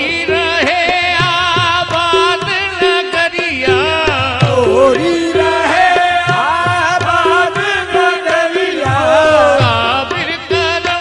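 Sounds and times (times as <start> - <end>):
harmonium: 0.0 - 11.0
lead singer singing: 0.0 - 11.0.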